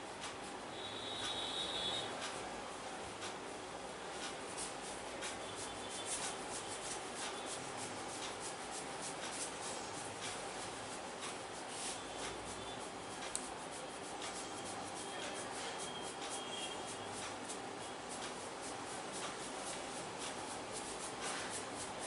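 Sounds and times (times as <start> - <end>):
hands rubbing scalp and hair: 4.2 - 22.0.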